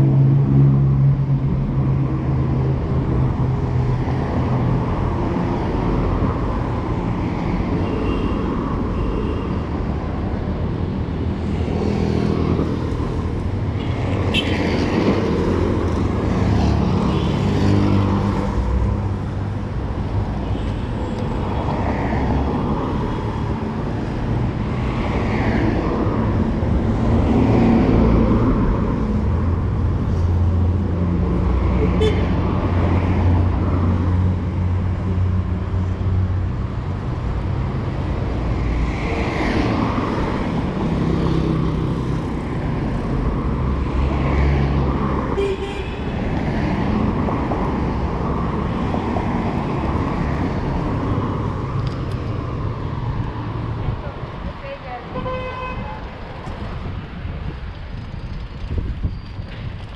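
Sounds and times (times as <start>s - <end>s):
steady street noise: 0.0s - 59.9s
vehicles passing: 0.0s - 59.9s.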